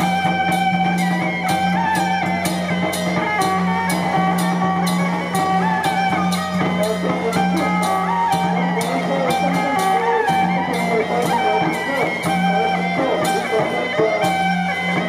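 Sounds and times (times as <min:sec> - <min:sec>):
sharp percussion strikes: 0:00.0 - 0:15.0.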